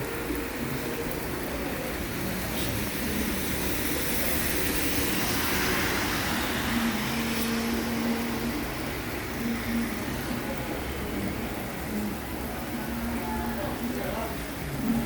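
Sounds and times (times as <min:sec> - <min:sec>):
rainstorm: 0:00.0 - 0:15.0
vehicle passing on wet road: 0:00.0 - 0:15.0.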